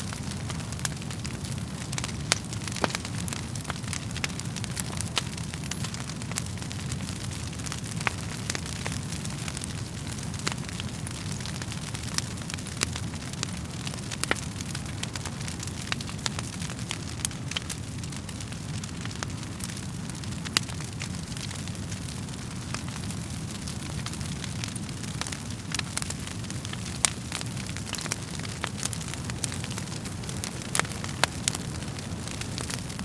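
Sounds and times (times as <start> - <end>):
low rush of flame: 0.0 - 33.0
wood fire crackling and popping: 0.0 - 33.0.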